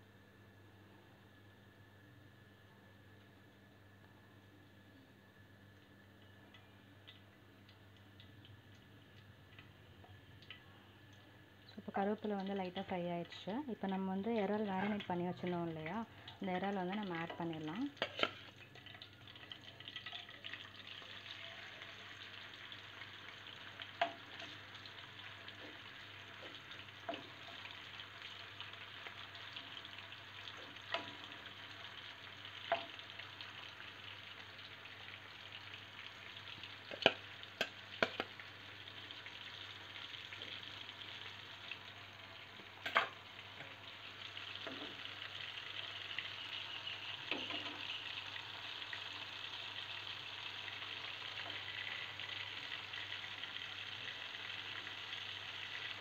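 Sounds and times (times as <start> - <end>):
prawns sizzling in hot oil: 5.9 - 56.0.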